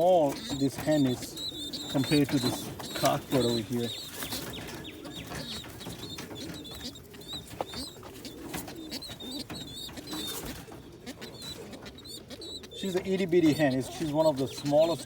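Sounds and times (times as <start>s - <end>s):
light clicks of birds moving: 0.0s - 15.0s
pigeons cooing: 0.0s - 15.0s.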